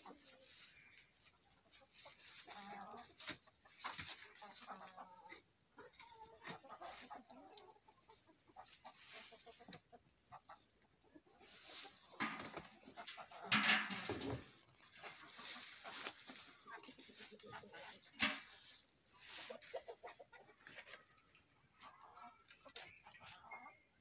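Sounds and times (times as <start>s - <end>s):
hens clucking: 0.0s - 24.0s.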